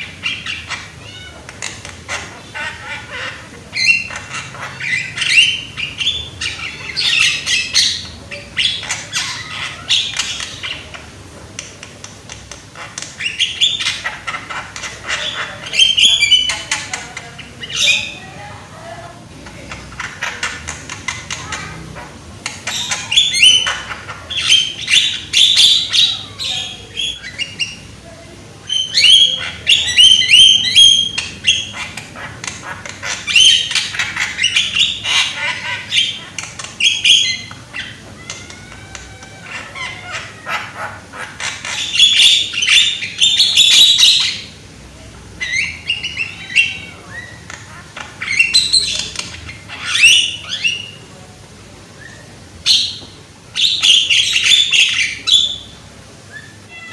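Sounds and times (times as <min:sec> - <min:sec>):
myna bird chattering and whistling: 0:00.0 - 0:18.4, 0:19.4 - 0:28.0, 0:28.6 - 0:44.6, 0:45.3 - 0:51.1, 0:52.0 - 0:56.9.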